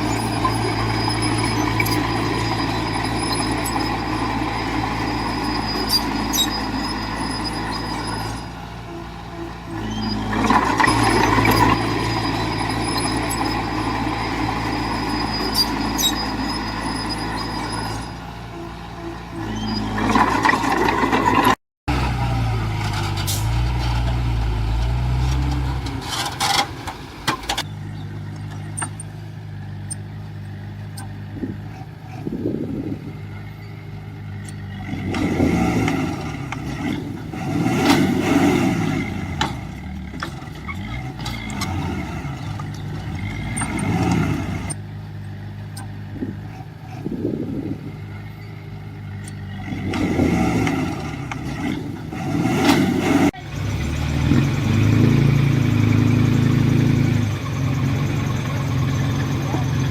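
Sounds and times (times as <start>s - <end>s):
engine with wavering pitch: 0.0s - 26.7s, 27.5s - 59.9s
heavy diesel engines running: 0.0s - 59.9s.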